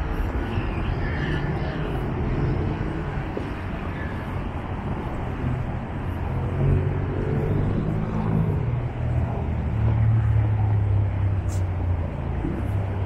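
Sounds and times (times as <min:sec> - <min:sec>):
rumble of passing car traffic: 0:00.0 - 0:13.0.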